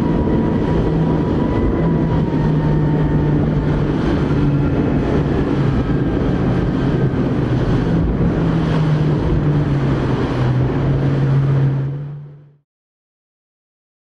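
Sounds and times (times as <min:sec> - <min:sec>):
wind buffeting microphone: 0:00.0 - 0:12.5
motorboat engine droning: 0:00.0 - 0:12.6
water rushing past hull: 0:00.0 - 0:12.6.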